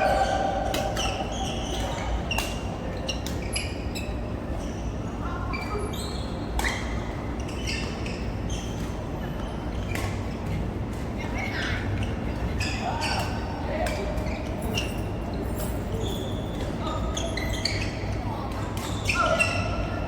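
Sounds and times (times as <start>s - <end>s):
shoes squeaking on court floor: 0.0s - 10.6s, 12.0s - 20.0s.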